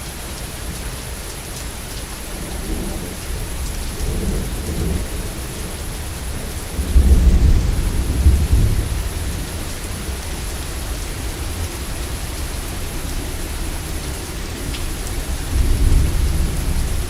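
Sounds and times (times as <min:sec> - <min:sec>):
heavy rain: 0:00.0 - 0:17.0
low rumble of thunder: 0:02.2 - 0:17.0.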